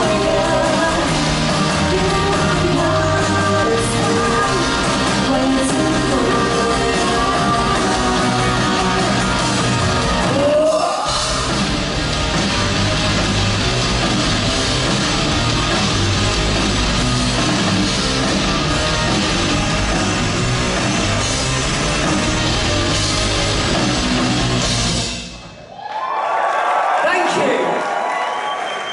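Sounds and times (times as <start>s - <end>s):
distorted electric guitar: 0.0s - 25.5s
bass guitar: 0.0s - 25.6s
drums: 0.0s - 25.9s.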